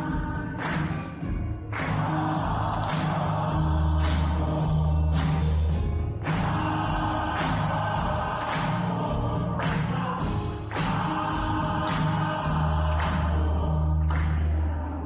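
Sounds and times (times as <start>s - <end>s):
choir singing sustained chords: 1.8s - 15.0s.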